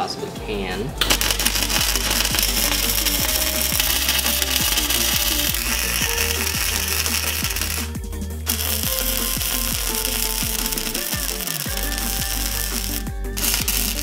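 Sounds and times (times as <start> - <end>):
background music with beat: 0.0 - 14.0
arc welding crackling hiss: 1.0 - 14.0.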